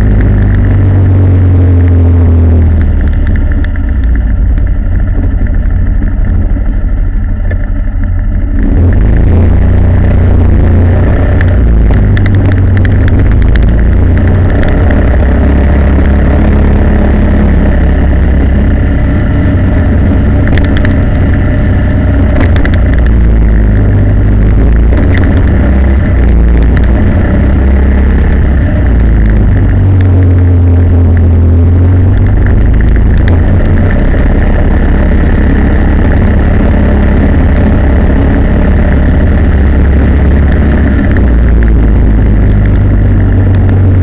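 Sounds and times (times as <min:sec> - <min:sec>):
low road noise: 0:00.0 - 0:44.0
vehicle engine running: 0:00.0 - 0:44.0.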